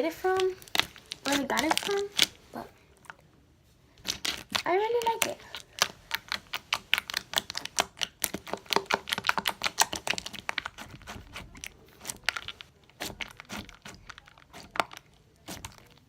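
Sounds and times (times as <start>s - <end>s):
slime squished crackling and popping: 0.2s - 2.6s, 4.0s - 16.0s.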